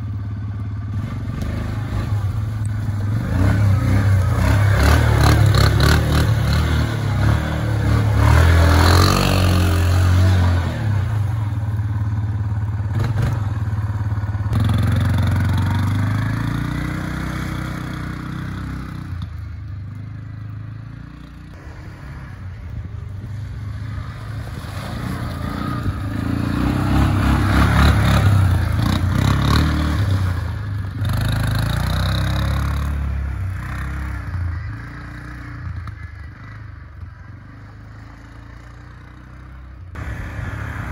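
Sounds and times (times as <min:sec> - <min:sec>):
quad bike engine revving: 0:00.0 - 0:19.4, 0:23.8 - 0:40.9.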